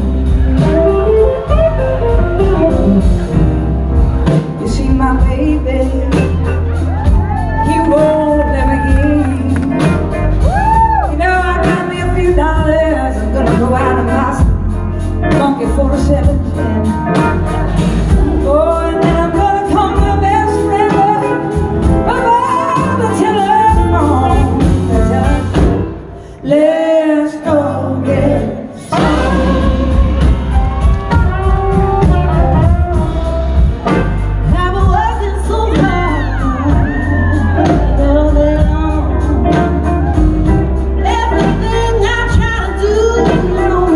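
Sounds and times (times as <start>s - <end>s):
live blues soul band: 0.0s - 43.9s
woman singing: 4.5s - 33.2s, 34.4s - 43.9s.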